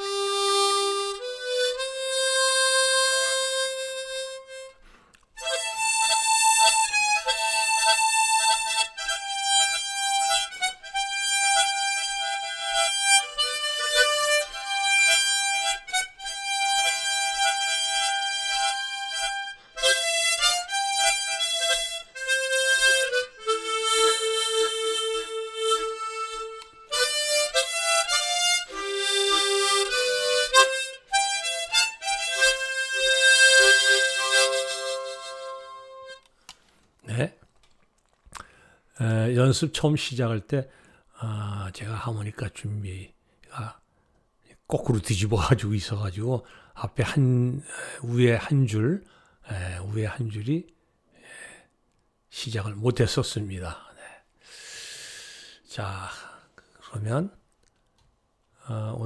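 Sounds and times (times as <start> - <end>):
harmonica slow melody: 0.0 - 36.8, 45.1 - 50.4, 52.4 - 57.6.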